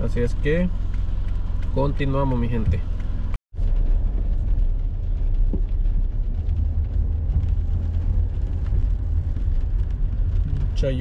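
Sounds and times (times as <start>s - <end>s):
car engine rumble: 0.0s - 11.0s
tyres on wet pavement: 0.0s - 11.0s.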